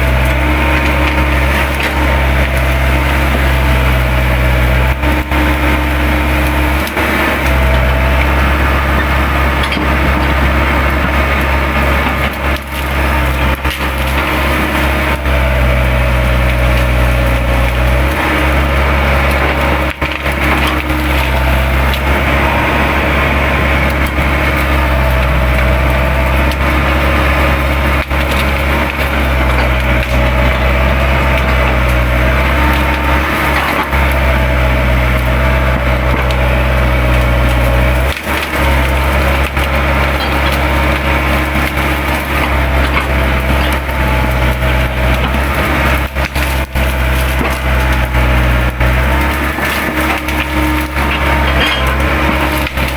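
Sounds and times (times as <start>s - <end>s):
branches snapping and splintering: 0.0s - 52.9s
excavator engine running: 0.0s - 52.9s
hydraulic whine: 0.0s - 52.9s.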